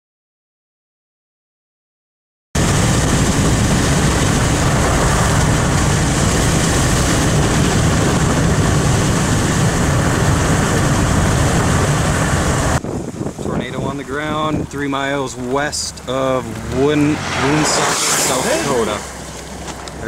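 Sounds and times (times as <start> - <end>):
low rumble: 2.6 - 20.0
wind buffeting microphone: 2.6 - 20.0.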